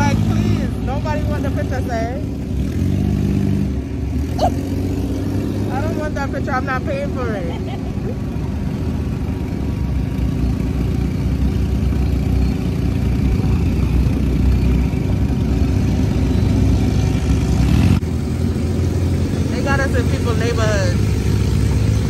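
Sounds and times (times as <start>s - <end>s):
dune buggy engine rumbling: 0.0s - 22.0s.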